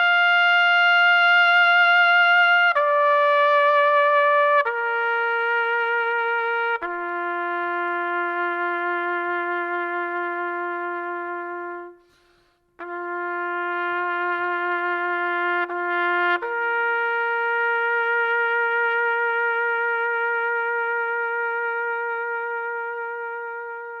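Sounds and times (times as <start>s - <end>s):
slow brass-like melody: 0.0s - 24.0s.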